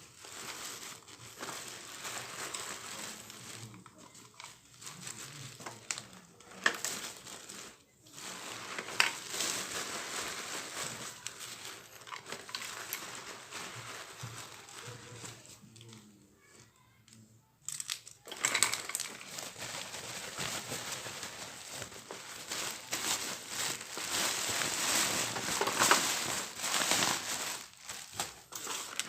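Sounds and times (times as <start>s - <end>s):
plastic packaging crinkling: 0.0s - 16.0s, 17.7s - 29.0s.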